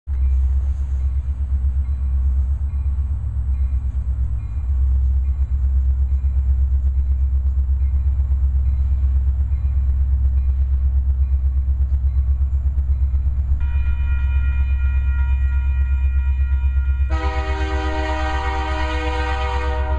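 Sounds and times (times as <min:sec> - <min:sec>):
diesel locomotives rumbling: 0:00.1 - 0:19.9.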